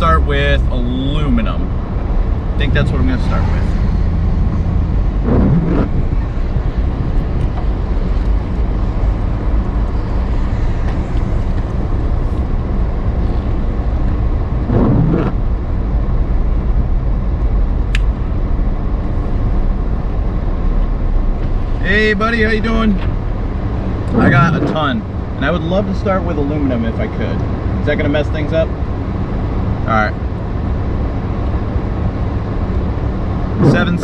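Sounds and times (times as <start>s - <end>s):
low engine rumble: 0.0s - 34.0s.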